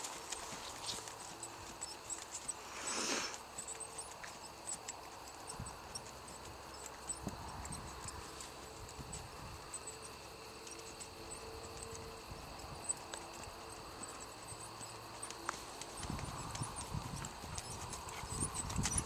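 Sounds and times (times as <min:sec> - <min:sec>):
hoofbeats trotting on dirt: 0:00.0 - 0:19.0.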